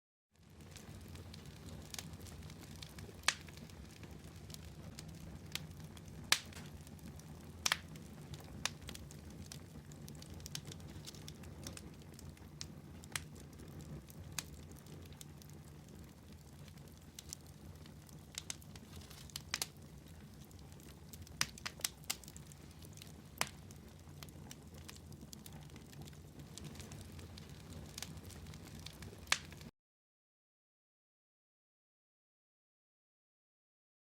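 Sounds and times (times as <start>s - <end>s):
fire crackling: 0.4s - 29.7s.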